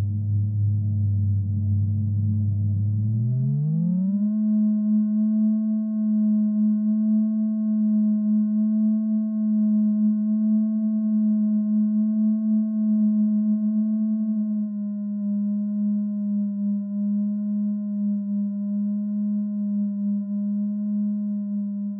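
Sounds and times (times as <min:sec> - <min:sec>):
low electronic tone: 0:00.0 - 0:21.9.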